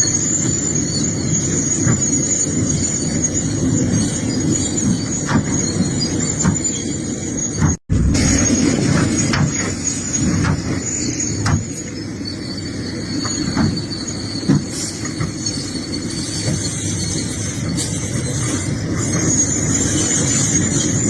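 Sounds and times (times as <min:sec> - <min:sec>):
excavator engine rumbling: 0:00.0 - 0:21.0
high-pitched squeal: 0:00.0 - 0:21.0.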